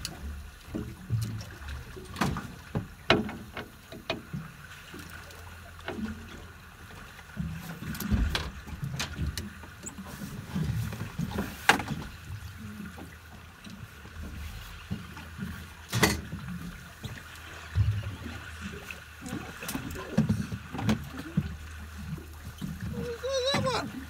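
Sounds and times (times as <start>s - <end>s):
water slapping against boat hull: 0.0s - 24.0s.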